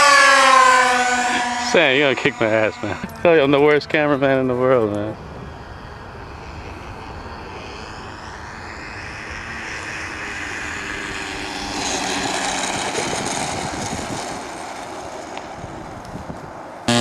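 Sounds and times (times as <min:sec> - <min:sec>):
model airplane motor whine: 0:00.0 - 0:17.0.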